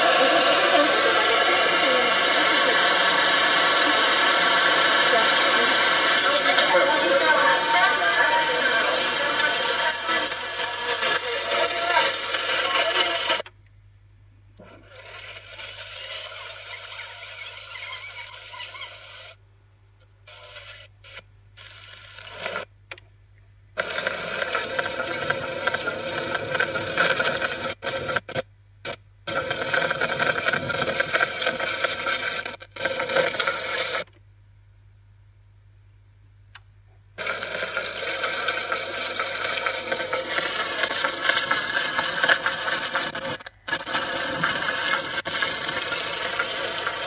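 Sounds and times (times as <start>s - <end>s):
noisy scraping tape audio: 0.0s - 13.6s, 14.5s - 19.4s, 20.0s - 22.8s, 23.6s - 34.2s, 37.2s - 47.0s.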